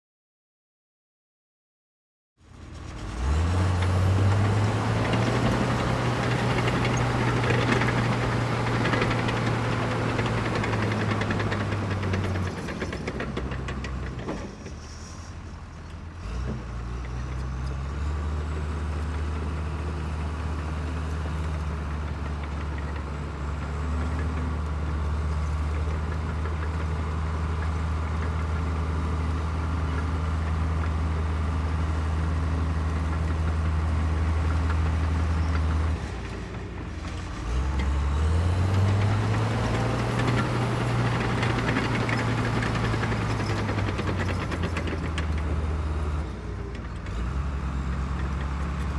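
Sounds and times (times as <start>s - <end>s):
bulldozer diesel engine revving: 2.6s - 14.2s, 16.2s - 48.9s.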